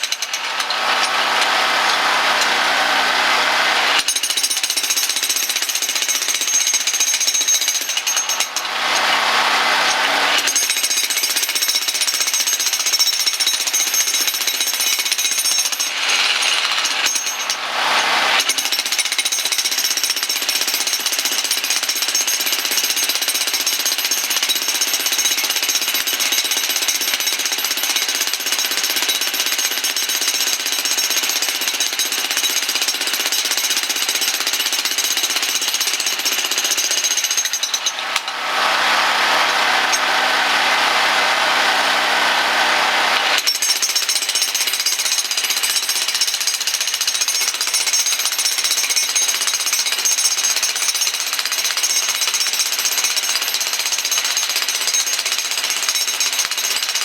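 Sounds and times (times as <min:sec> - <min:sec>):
electric hammer pounding concrete: 0:00.0 - 0:57.0.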